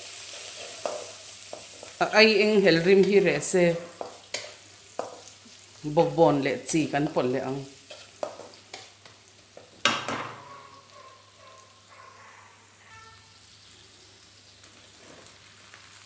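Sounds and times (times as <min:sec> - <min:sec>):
onions sizzling in oil: 0:00.0 - 0:12.0, 0:12.6 - 0:16.0.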